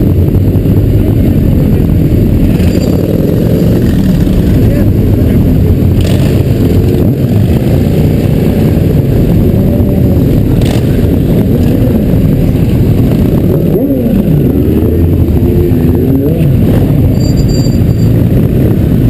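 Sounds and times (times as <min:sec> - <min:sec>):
motorcycle engines running: 0:00.0 - 0:19.0.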